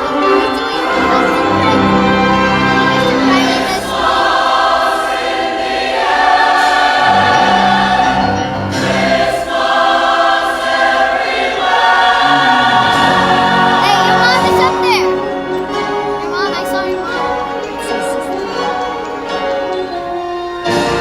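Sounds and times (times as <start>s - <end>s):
choir singing sustained chords: 0.0s - 21.0s.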